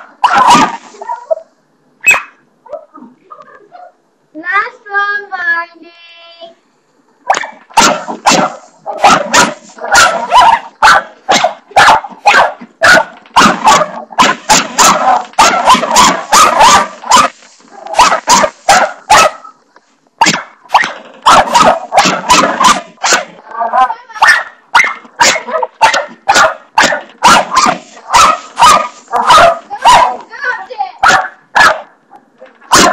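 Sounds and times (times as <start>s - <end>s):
dog barking: 0.0s - 4.0s, 7.3s - 19.6s, 20.2s - 30.3s, 31.0s - 32.9s.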